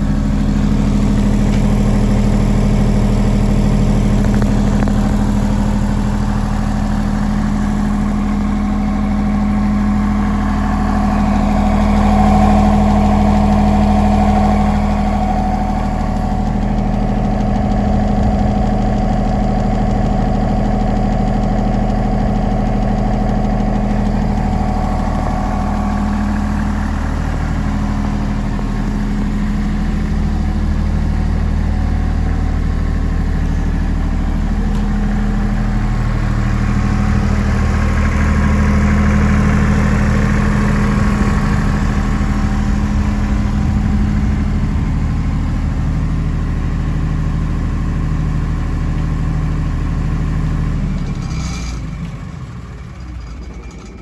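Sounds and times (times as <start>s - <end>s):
diesel generator running: 0.0s - 54.0s.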